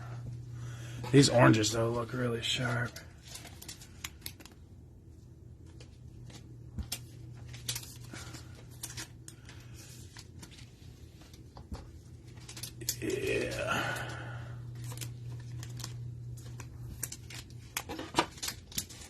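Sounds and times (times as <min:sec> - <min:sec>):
steady low hum: 0:00.0 - 0:19.0
cards and packaging handled: 0:01.0 - 0:04.7, 0:05.6 - 0:19.0.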